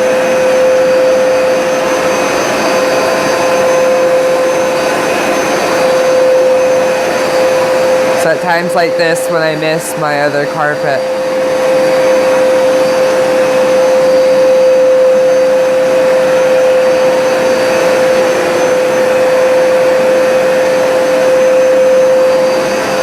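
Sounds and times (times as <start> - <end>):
carpet cleaner suction motor: 0.0 - 23.0.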